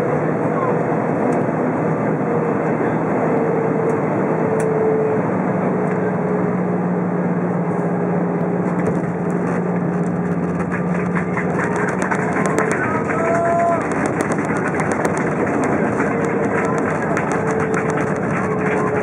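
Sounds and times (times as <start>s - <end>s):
aircraft cabin engine rush: 0.0s - 19.0s
low hum: 0.0s - 19.0s.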